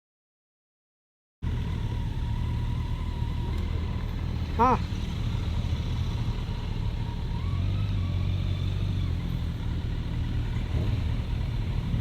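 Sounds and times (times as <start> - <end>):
vehicle engine and road rumble: 1.4 - 12.0.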